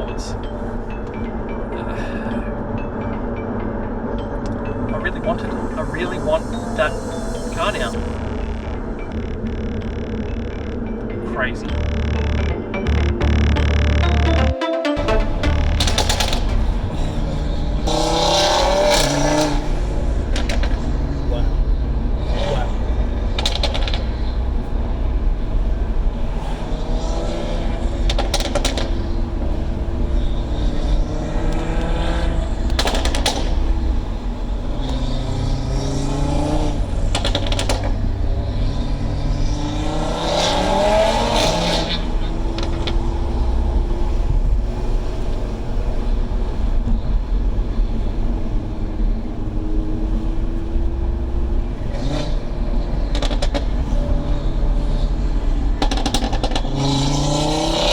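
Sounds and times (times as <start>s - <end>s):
car engine revving through gears: 0.0s - 57.9s.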